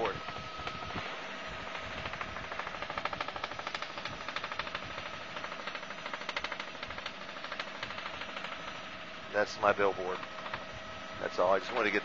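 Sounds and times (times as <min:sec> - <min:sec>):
helicopter rotor blades chopping: 0:00.0 - 0:12.0
steady engine whine: 0:00.0 - 0:12.0.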